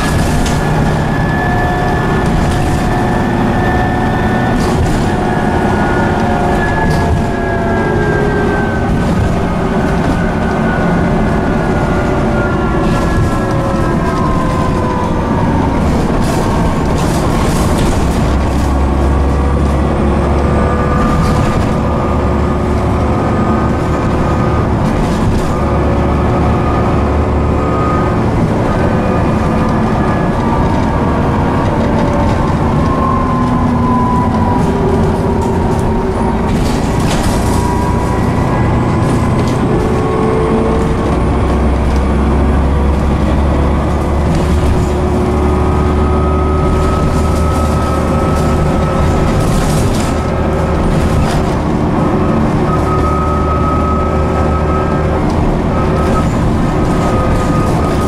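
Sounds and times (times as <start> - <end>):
bus engine drive noise: 0.0 - 58.0
bus gearbox whine: 0.0 - 58.0.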